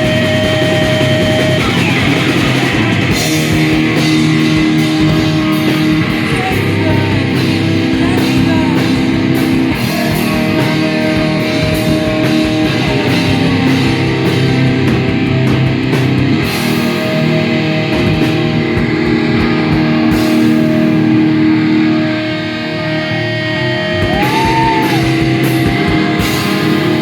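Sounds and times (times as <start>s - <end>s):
distorted electric guitars: 0.0s - 27.0s
pounding drum kit: 0.0s - 27.0s.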